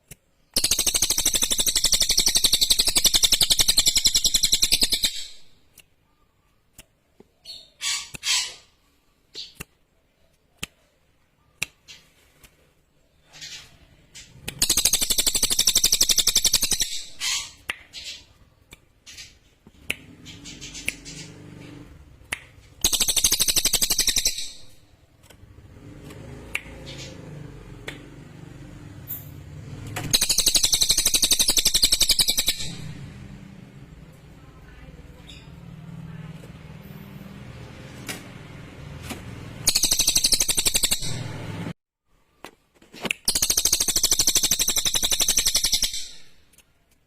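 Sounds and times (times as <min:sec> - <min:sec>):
bird sharp chips: 0:00.0 - 0:27.4, 0:30.0 - 0:33.1, 0:38.0 - 0:41.7, 0:43.0 - 0:46.5.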